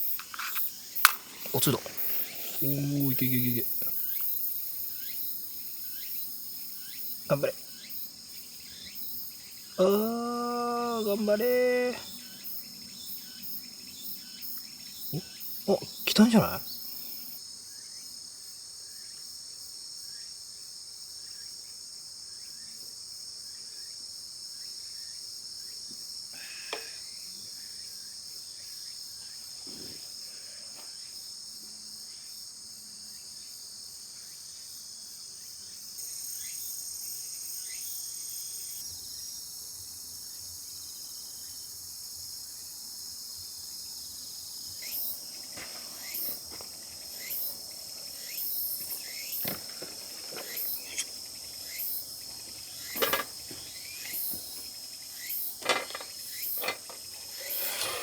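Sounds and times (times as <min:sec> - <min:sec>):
crickets and insects chirping: 0:00.0 - 0:58.0.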